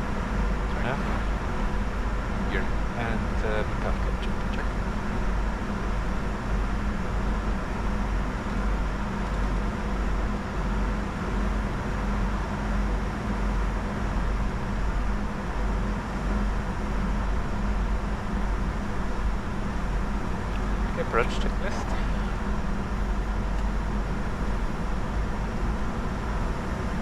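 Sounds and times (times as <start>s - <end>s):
low hum: 0.0s - 11.1s, 16.3s - 27.0s.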